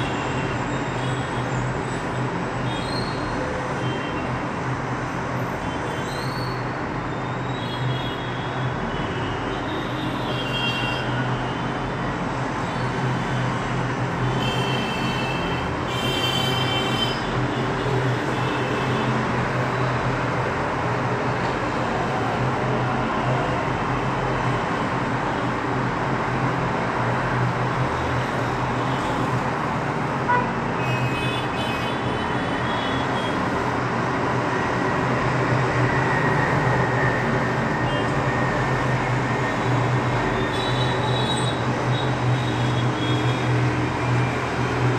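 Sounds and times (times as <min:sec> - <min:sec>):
distant road traffic: 0:08.5 - 0:44.9.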